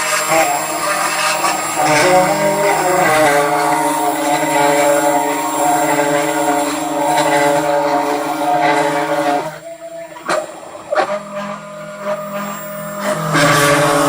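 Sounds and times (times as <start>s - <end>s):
mill motors humming: 0.0s - 14.0s
steady high-pitched tone: 0.0s - 14.0s.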